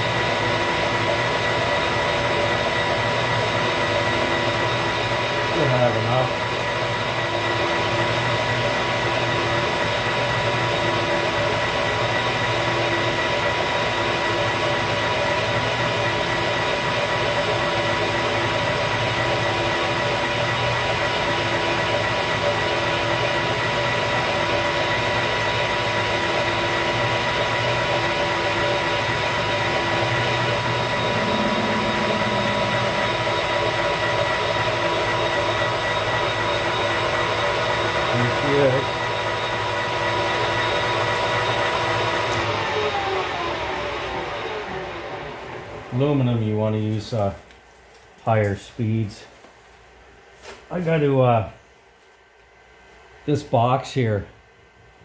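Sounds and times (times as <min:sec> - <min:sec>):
metal lathe humming: 0:00.0 - 0:45.9
high-pitched machine whine: 0:00.0 - 0:46.5.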